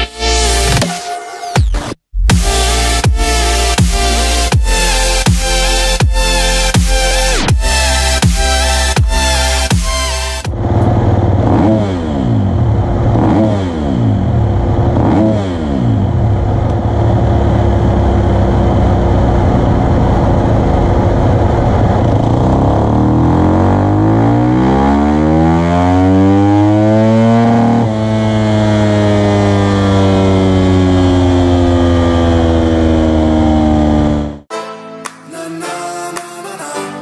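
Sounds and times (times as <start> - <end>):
motocross engine revving: 2.3 - 34.4.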